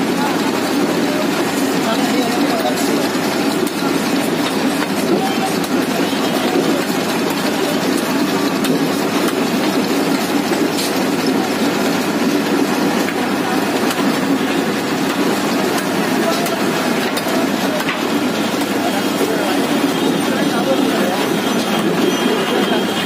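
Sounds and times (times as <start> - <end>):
busy market din: 0.0 - 23.0.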